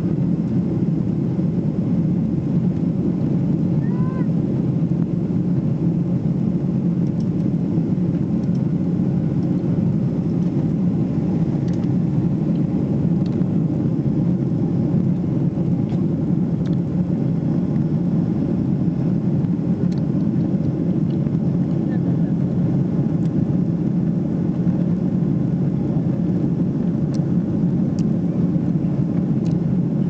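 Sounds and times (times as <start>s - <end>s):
jet engine cabin rumble: 0.0s - 30.0s.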